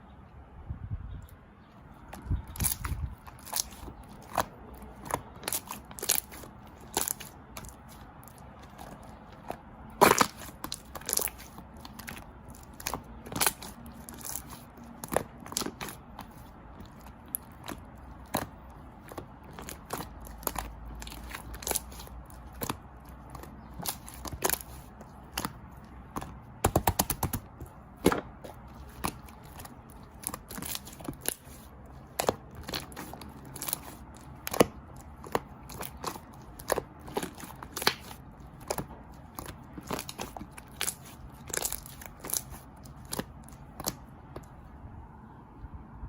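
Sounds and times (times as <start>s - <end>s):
crisp crunching clicks: 2.1s - 44.5s.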